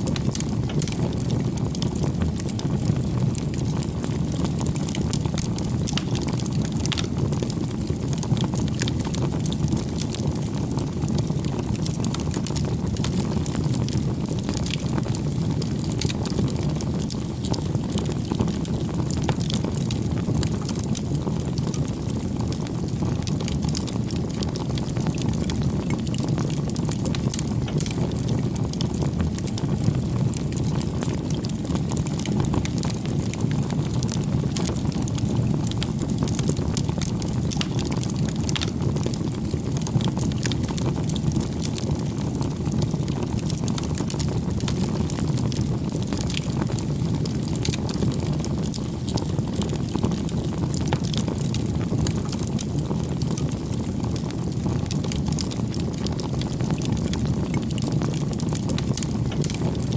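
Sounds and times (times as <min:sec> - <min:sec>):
campfire flames rushing: 0:00.0 - 0:59.9
fire crackling and popping: 0:00.0 - 0:59.9.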